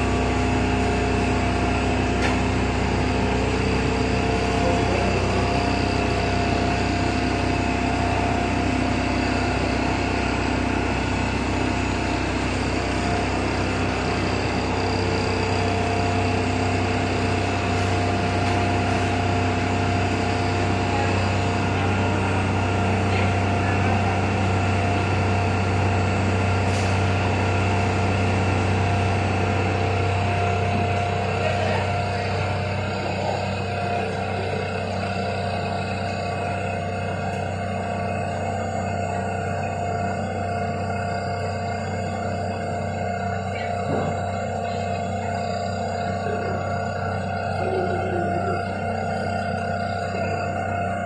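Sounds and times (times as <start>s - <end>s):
fryer conveyor machine hum: 0.0s - 51.0s.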